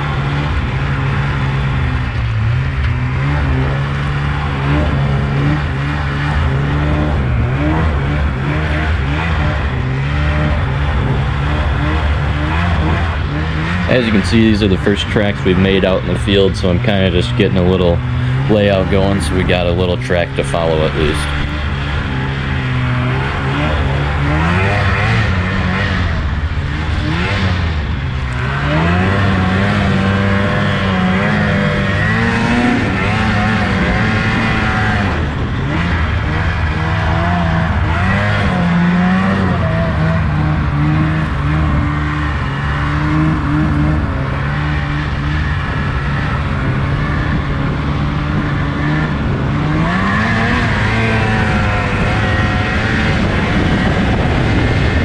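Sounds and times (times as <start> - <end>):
snowmobile engine revving: 0.0 - 55.0
steady rushing noise: 0.0 - 55.0.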